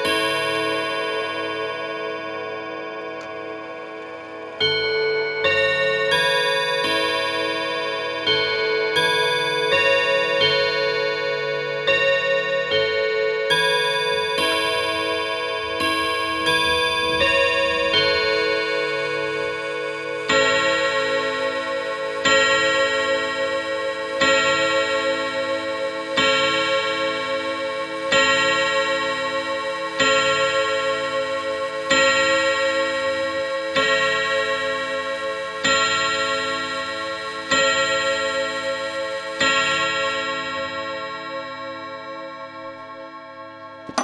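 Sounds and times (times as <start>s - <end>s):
clock chime rods ringing: 0.0s - 44.0s.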